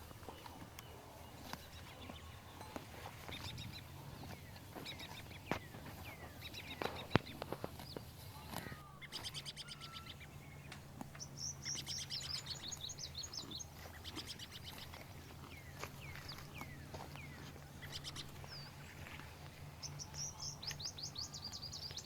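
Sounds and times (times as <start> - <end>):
small birds chirping and trilling: 0.0 - 22.0
steady low hum: 0.0 - 22.0.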